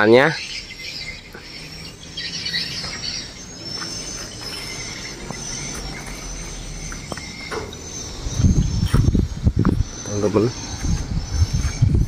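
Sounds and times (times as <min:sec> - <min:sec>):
high-pitched chirping: 0:00.0 - 0:12.0.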